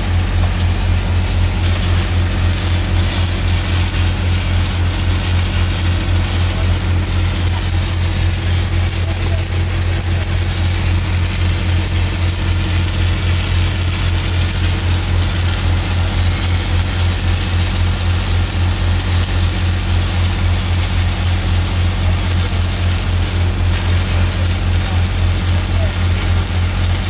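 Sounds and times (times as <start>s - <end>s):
diesel welder engine humming: 0.0s - 27.0s
welding arc crackling and sizzling: 0.0s - 27.0s.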